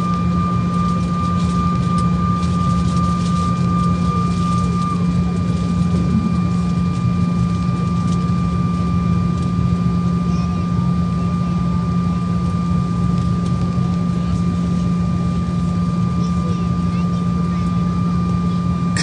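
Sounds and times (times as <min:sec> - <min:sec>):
airliner engines droning: 0:00.0 - 0:19.0
thin high engine whine: 0:00.0 - 0:19.0.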